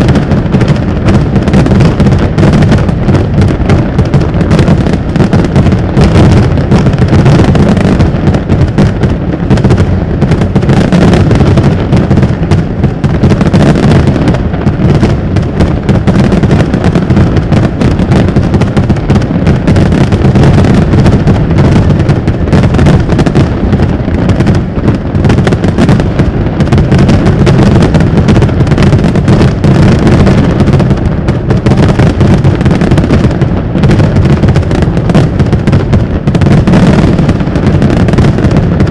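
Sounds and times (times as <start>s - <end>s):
fireworks booming: 0.0s - 38.9s
fireworks crackling: 0.0s - 38.9s.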